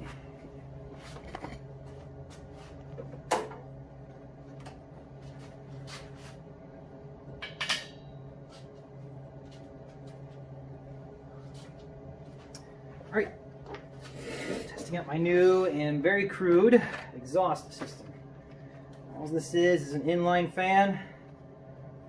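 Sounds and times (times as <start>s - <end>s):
exhaust fan humming: 0.0s - 22.0s.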